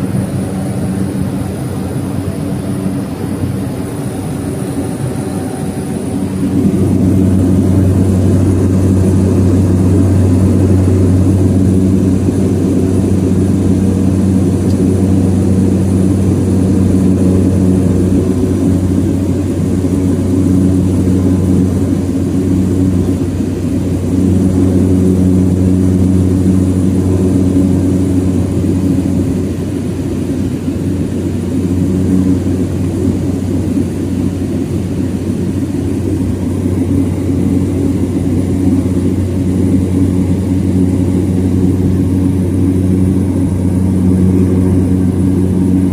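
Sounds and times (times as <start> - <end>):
turboprop engine drone: 0.0 - 45.9.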